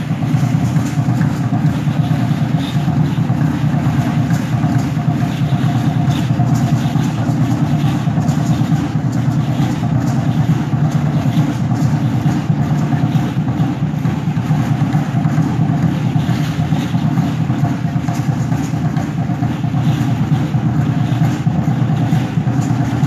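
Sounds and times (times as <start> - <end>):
dense drumming: 0.0 - 23.0.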